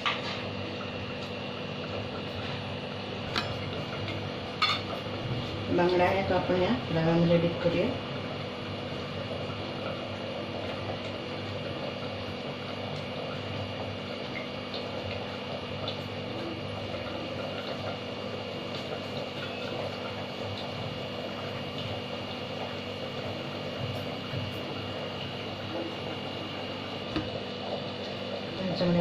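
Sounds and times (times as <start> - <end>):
hot oil sizzling: 0.0 - 29.0.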